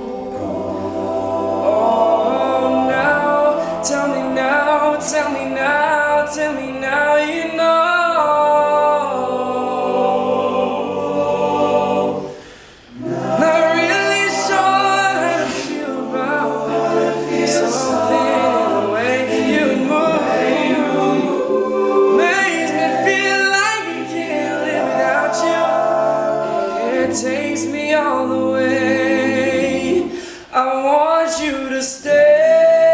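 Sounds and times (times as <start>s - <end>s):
male a cappella group singing: 0.0s - 32.9s.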